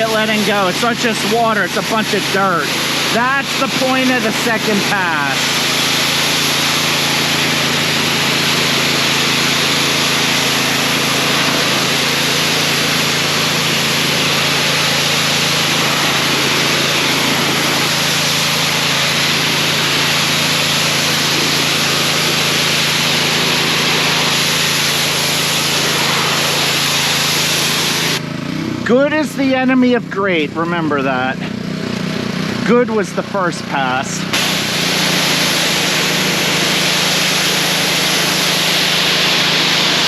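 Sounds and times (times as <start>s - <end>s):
high-pressure water jet hissing: 0.0s - 28.3s, 33.8s - 40.0s
pressure washer engine humming: 0.0s - 40.0s.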